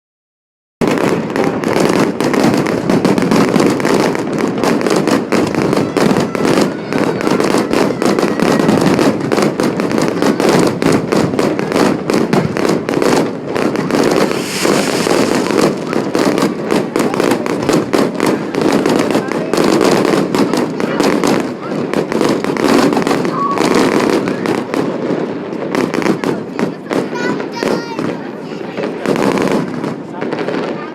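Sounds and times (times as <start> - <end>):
fireworks bangs and crackles: 0.8 - 30.9.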